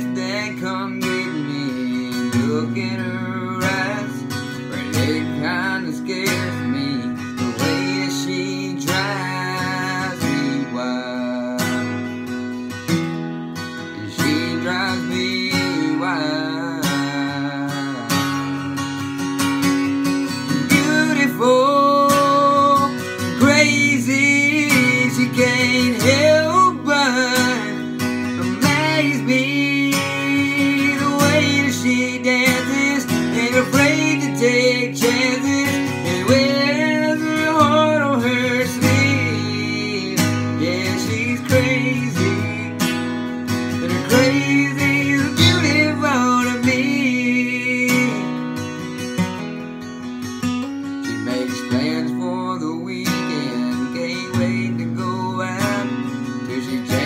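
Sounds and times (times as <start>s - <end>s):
young man singing: 0.0s - 12.8s, 13.6s - 49.2s, 51.0s - 57.0s
acoustic guitar strumming: 0.0s - 57.0s.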